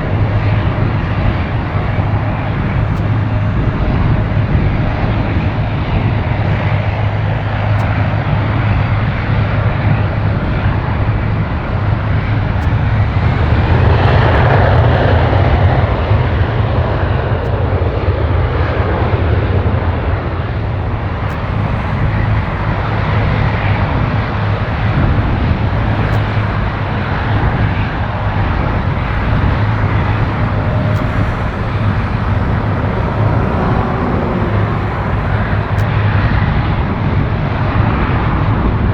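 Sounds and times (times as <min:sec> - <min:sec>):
jet engine rumble: 0:00.0 - 0:15.5, 0:19.7 - 0:37.3.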